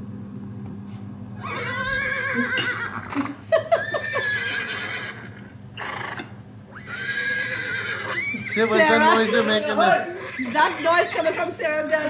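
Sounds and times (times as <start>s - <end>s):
horse whinnying: 1.4s - 11.4s.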